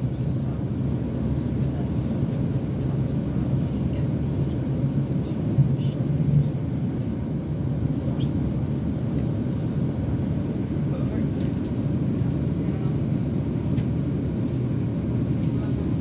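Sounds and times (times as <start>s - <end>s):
constant low hum: 0.0s - 16.0s
train rumbling from on board: 0.0s - 16.0s.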